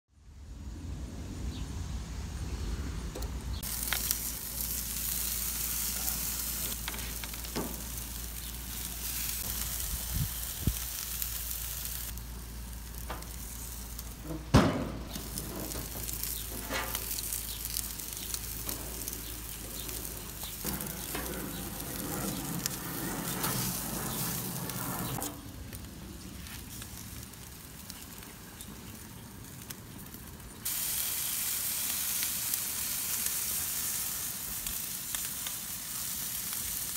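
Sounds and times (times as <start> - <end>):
sausages sizzling on grill: 3.5 - 36.9.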